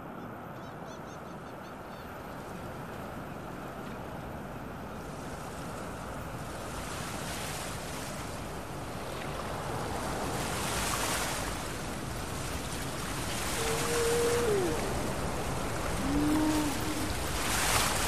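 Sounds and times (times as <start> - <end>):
waves breaking: 2.4 - 18.0.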